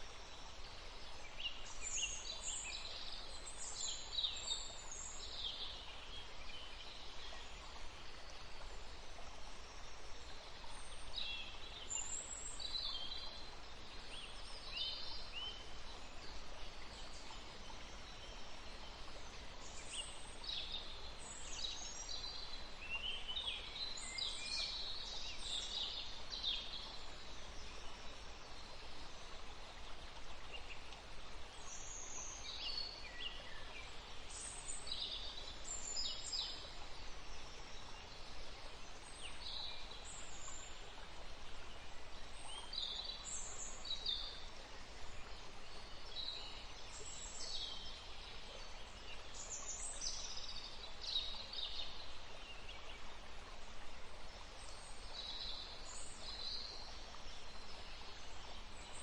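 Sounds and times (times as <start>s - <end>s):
outdoor ambience hiss: 0.0s - 59.0s.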